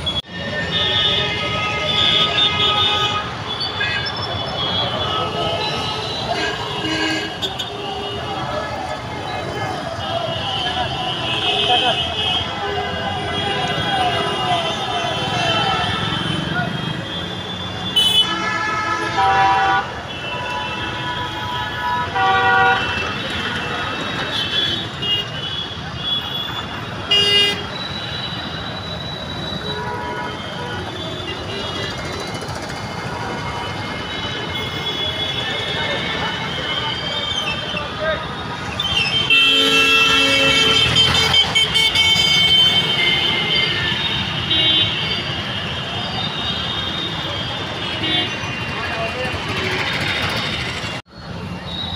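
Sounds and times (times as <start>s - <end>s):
vehicle horns honking: 0.0s - 8.6s, 9.4s - 32.1s, 32.9s - 51.0s
road traffic noise: 0.0s - 51.9s.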